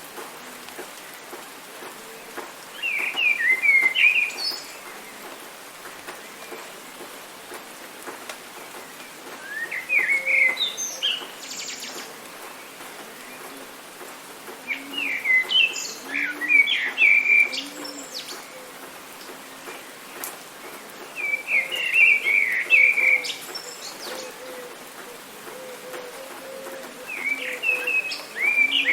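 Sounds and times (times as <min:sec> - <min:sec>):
rain hissing: 0:00.0 - 0:28.9
songbird singing: 0:00.1 - 0:28.9.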